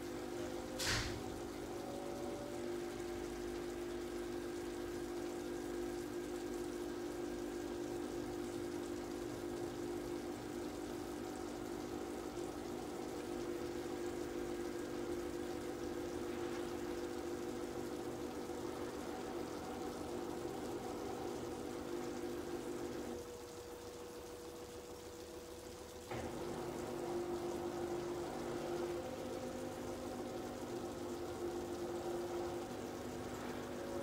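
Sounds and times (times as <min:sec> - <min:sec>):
sauce bubbling in pans: 0:00.0 - 0:34.0.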